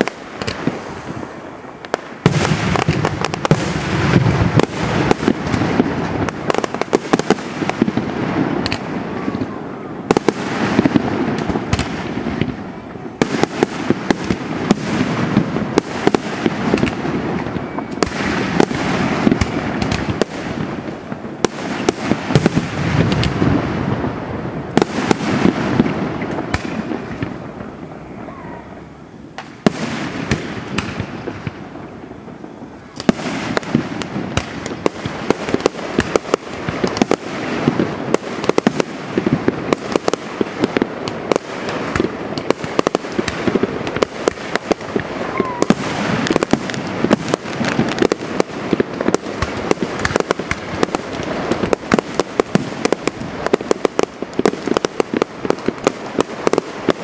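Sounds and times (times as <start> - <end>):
fireworks crackling and popping: 0.0 - 57.0.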